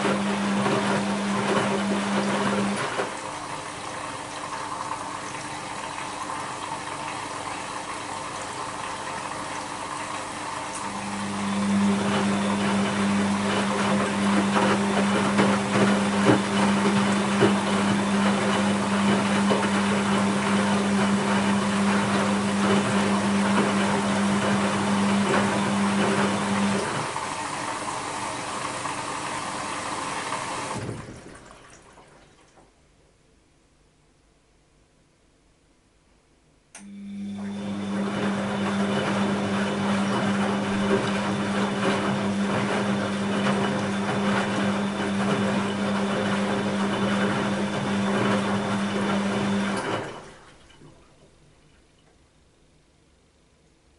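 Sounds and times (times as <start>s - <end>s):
washing machine water sloshing: 0.0s - 32.8s, 37.4s - 52.3s.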